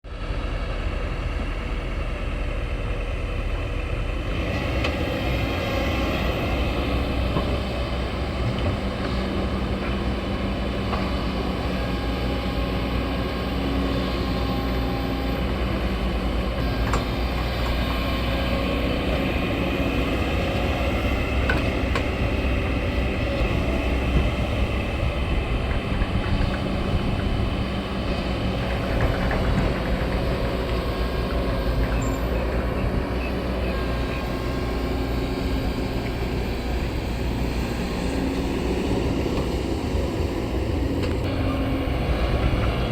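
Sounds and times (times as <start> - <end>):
diesel engine rumbling: 0.0 - 42.9.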